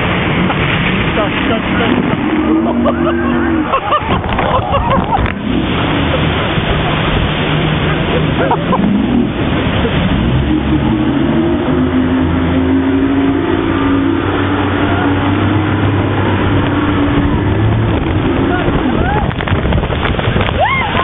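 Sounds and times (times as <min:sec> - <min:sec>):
motorboat engine revving: 0:00.0 - 0:21.0
rushing water and wind: 0:00.0 - 0:21.0.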